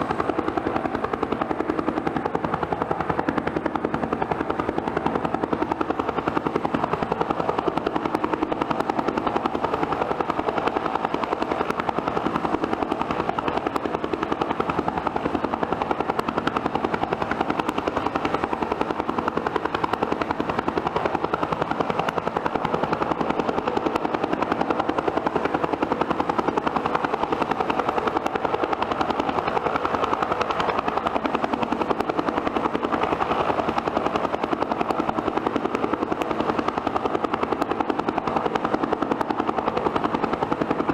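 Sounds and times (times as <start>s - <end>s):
helicopter rotor beat: 0.0s - 40.9s.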